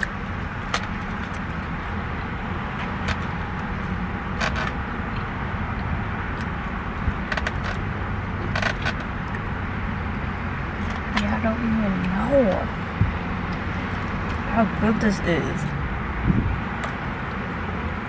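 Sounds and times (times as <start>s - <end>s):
low hum inside parked car: 0.0s - 18.0s.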